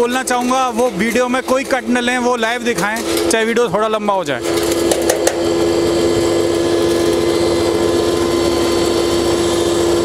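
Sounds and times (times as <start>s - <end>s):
mill grinding brick: 0.0s - 10.0s.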